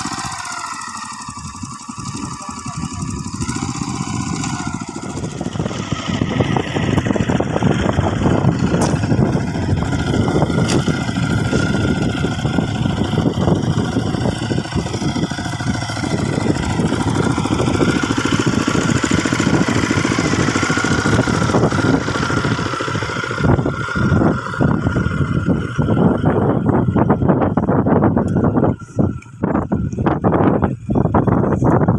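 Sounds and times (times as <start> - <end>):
small engine chugging: 0.0 - 31.9.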